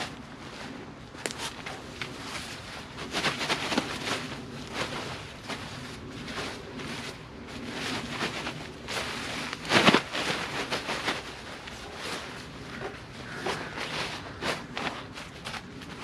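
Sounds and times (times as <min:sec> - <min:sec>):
rustling and crunching: 0:00.0 - 0:16.0.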